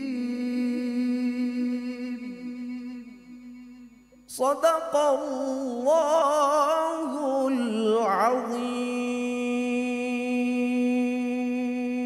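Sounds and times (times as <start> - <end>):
man chanting with vibrato: 0.0 - 12.0.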